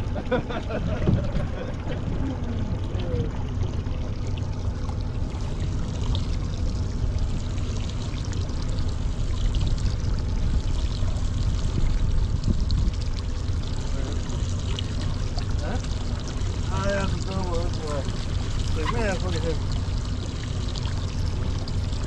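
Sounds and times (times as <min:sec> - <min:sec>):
low rumble: 0:00.0 - 0:22.0
water pouring and trickling: 0:00.0 - 0:22.0.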